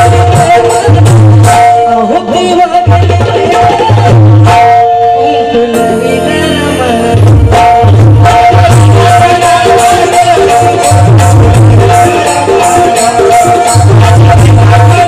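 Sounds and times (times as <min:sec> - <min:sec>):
devotional song with drum beat: 0:00.0 - 0:15.0.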